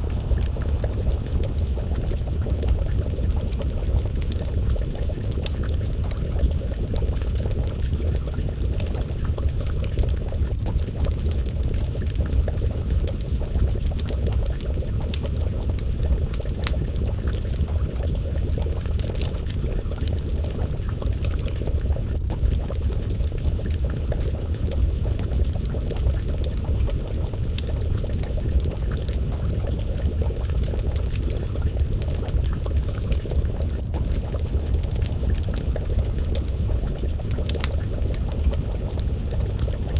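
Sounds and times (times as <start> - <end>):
stew pot bubbling: 0.0 - 39.9
wood fire crackling and popping: 0.0 - 39.9.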